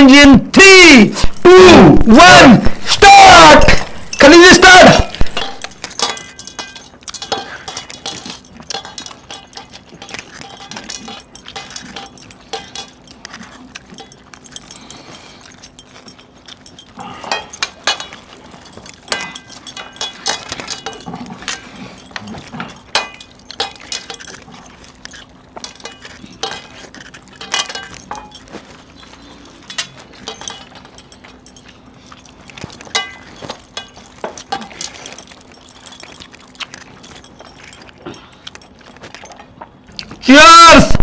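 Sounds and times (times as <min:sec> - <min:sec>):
metal bangles clinking on plates: 0:02.7 - 0:40.4
chewing: 0:05.1 - 0:40.2.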